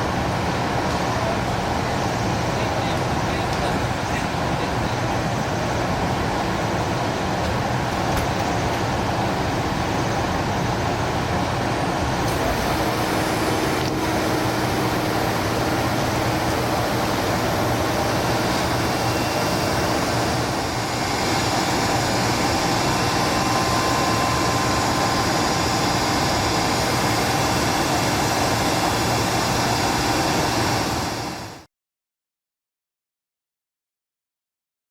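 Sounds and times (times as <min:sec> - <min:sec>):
freight train rumbling past: 0:00.0 - 0:31.4.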